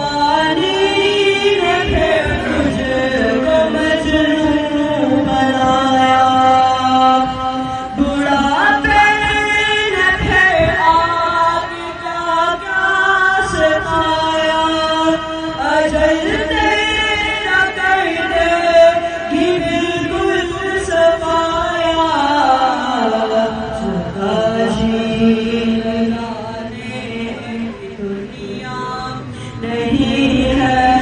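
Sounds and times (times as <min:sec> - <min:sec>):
boy singing devotional song: 0:00.0 - 0:31.0.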